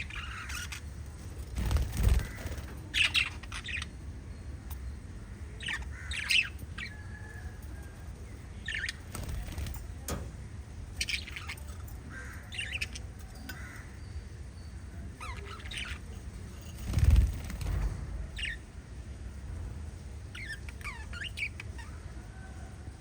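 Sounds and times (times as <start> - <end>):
lovebirds chirping and squawking: 0.0 - 18.8, 20.1 - 23.0
low background rumble: 0.0 - 23.0.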